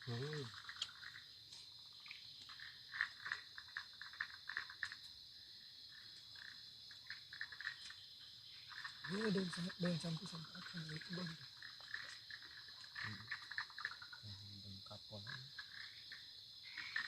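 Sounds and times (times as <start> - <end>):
frog calls: 0.0 - 17.0
high insect drone: 0.0 - 17.0.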